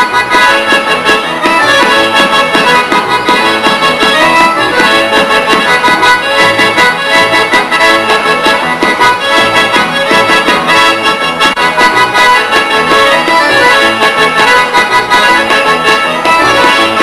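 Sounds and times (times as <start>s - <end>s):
accordion folk dance tune: 0.0s - 17.0s.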